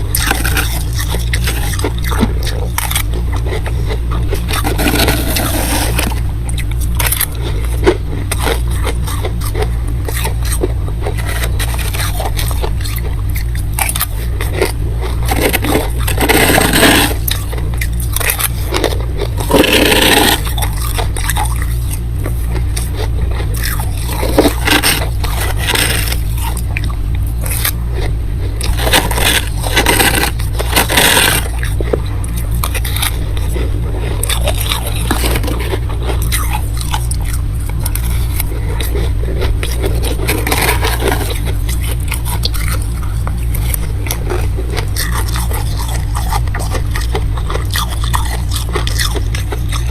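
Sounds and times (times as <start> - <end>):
frost being scraped: 0.0 - 13.1, 13.8 - 26.8, 27.4 - 49.9
steady low hum: 0.0 - 49.9.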